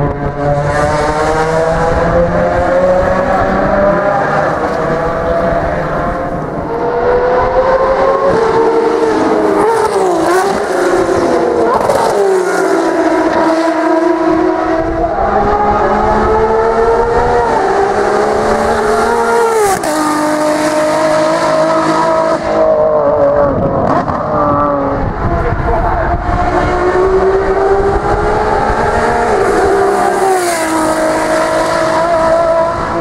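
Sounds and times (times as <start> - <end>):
race car engines passing at speed: 0.0 - 33.0.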